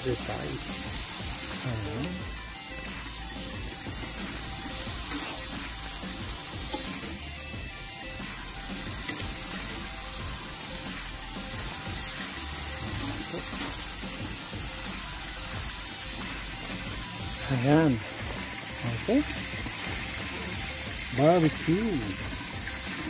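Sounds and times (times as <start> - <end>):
meat sizzling on a grill: 0.0 - 23.0.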